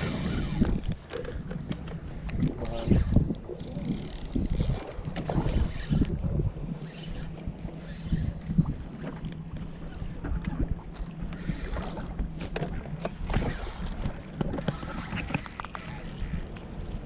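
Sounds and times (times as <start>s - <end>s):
water slapping against boat hull: 0.0s - 6.4s, 8.3s - 16.6s
wind on microphone: 0.0s - 17.0s.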